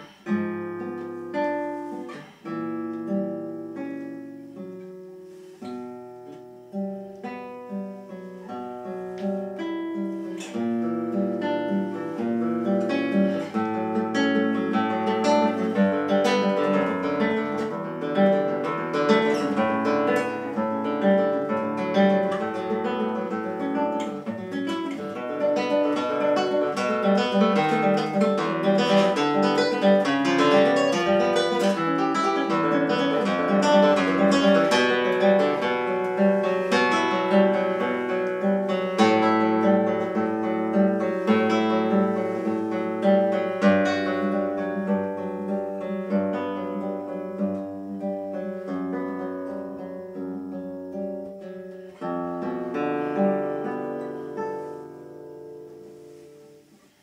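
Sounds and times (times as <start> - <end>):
fingerpicked classical guitar: 0.0 - 57.0.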